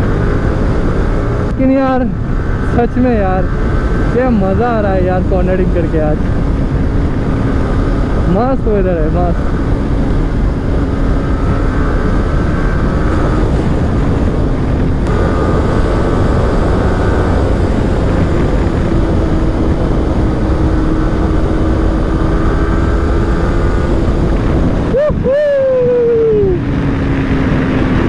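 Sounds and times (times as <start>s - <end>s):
motorcycle engine running: 0.0s - 25.1s, 26.4s - 28.0s
wind rumble on microphone: 0.0s - 28.0s.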